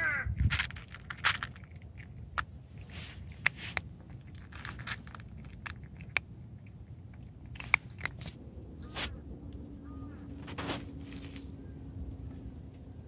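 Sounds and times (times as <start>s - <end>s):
cat crunching dry kibble: 0.0s - 13.0s.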